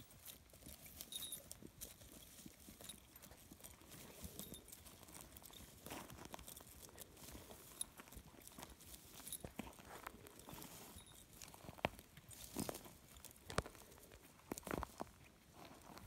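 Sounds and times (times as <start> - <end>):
grass rustling: 0.0 - 16.0
hoof steps on grass: 0.0 - 16.0
man's footsteps: 0.0 - 16.0.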